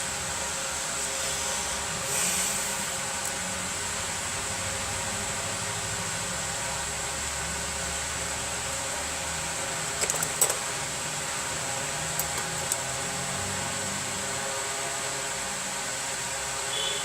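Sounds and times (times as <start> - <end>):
fan-like hum and hiss: 0.0 - 17.0.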